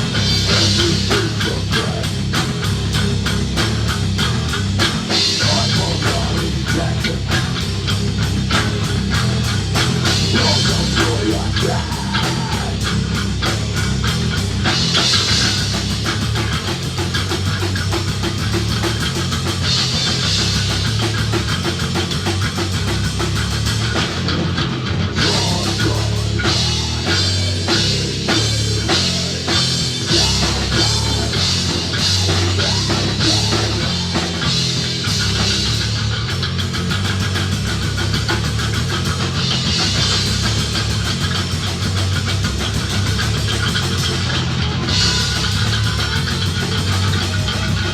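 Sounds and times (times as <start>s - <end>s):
distorted electric guitars: 0.0s - 47.9s
drum kit fast beat: 0.0s - 47.9s.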